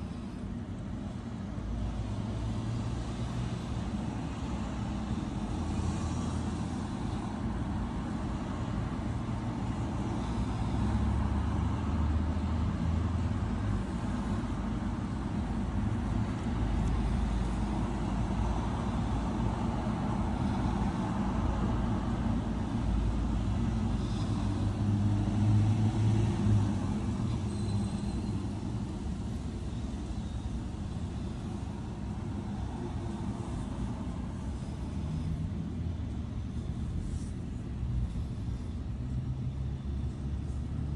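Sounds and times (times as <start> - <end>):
road traffic rumble: 0.0 - 40.9
vehicle engines running: 0.0 - 40.9.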